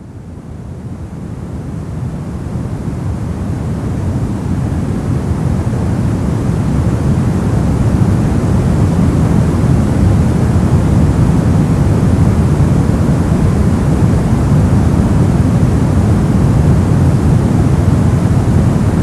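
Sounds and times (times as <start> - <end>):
brown noise: 0.0 - 19.0.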